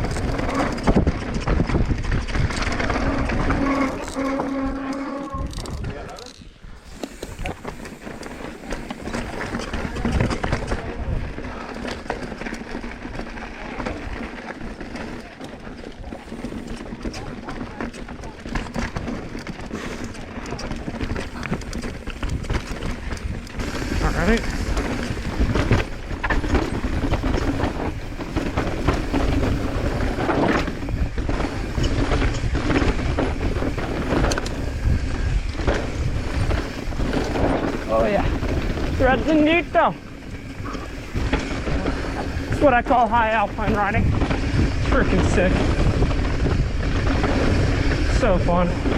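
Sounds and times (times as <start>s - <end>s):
wind rushing over microphone: 0.0s - 11.7s, 15.9s - 48.9s
bike rattling: 0.0s - 48.9s
bike tyres rumbling over dirt: 0.0s - 48.9s.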